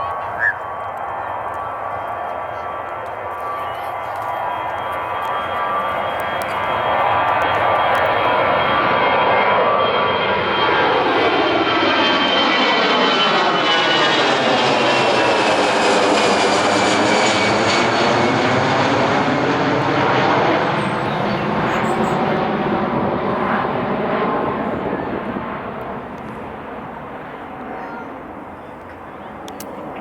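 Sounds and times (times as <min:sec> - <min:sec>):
jet airliner engines roaring: 0:00.0 - 0:30.0.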